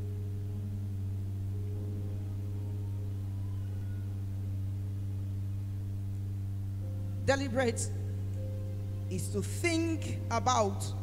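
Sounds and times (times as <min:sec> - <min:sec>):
faint sustained tones: 0:00.0 - 0:11.0
steady low hum: 0:00.0 - 0:11.0.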